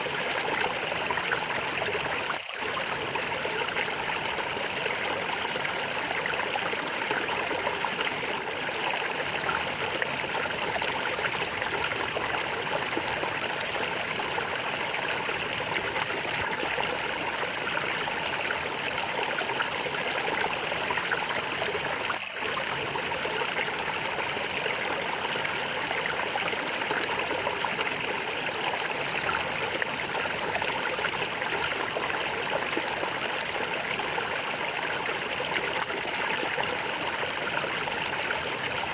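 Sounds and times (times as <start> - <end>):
stream gurgling over stones: 0.0 - 38.9.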